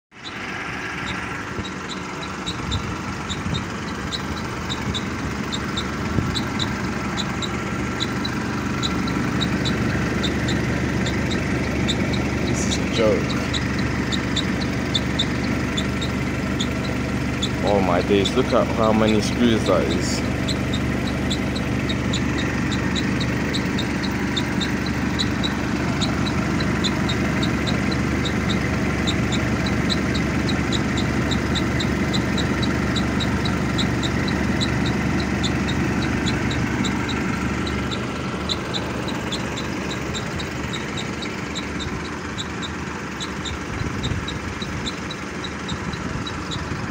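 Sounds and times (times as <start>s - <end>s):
bus engine idling: 0.0s - 46.9s.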